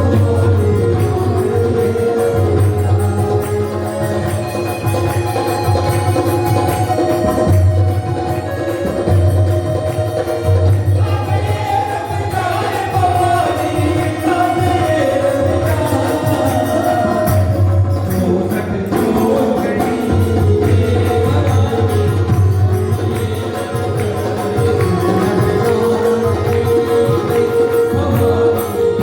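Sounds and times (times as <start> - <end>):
steady percussion: 0.0 - 29.0.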